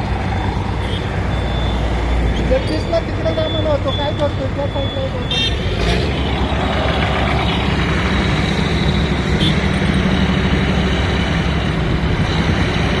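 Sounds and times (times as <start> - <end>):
heavy machinery diesel engines: 0.0 - 13.0.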